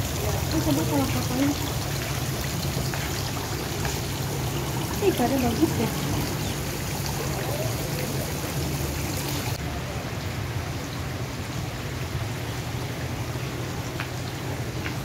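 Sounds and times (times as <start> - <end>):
fountain splashing into pond: 0.0 - 15.0.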